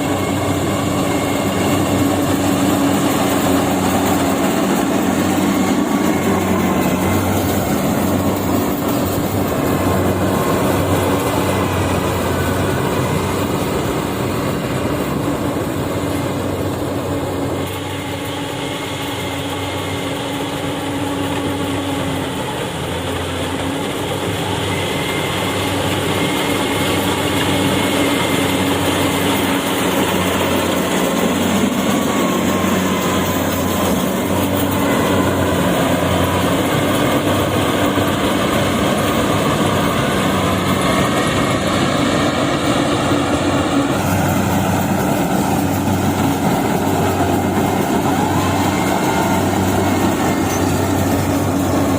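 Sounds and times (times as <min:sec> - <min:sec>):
combine harvester droning: 0:00.0 - 0:51.9.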